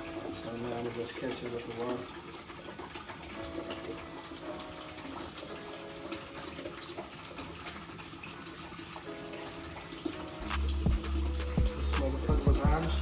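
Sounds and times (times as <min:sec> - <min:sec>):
water pouring into a container: 0:00.0 - 0:13.0.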